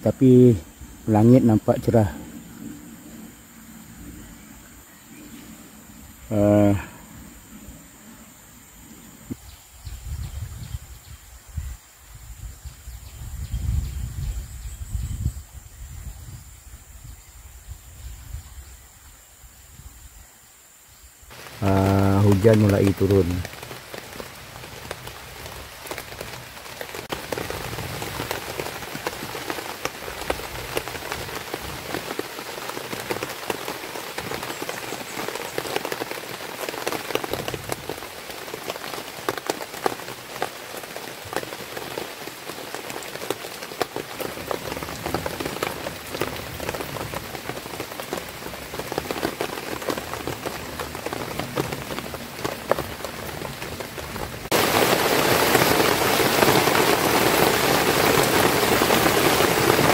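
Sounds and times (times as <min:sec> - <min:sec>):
rain on leaves and ground: 0:00.0 - 0:59.9.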